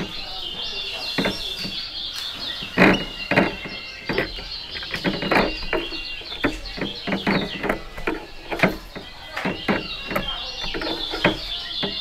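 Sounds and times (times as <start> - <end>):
bird chirping and trilling: 0.0 - 12.0
bird hopping knocks and flutters: 0.0 - 12.0.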